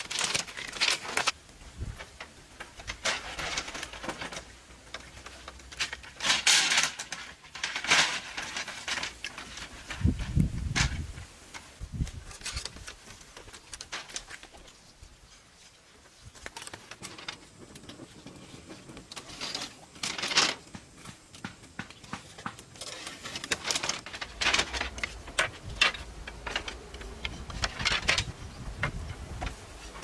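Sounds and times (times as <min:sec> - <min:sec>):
knocks and clicks of bamboo: 0:00.0 - 0:14.8, 0:16.1 - 0:30.0.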